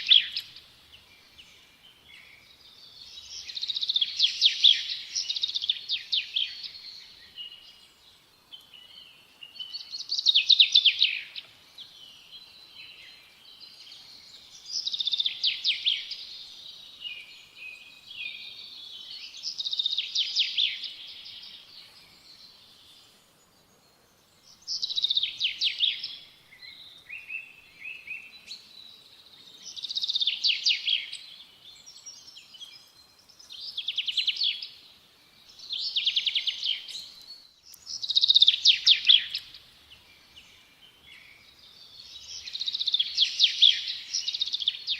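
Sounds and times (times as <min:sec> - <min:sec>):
songbird singing rapid phrases: 0:00.0 - 0:23.0, 0:24.3 - 0:44.9
soft bird chirps: 0:00.0 - 0:44.9.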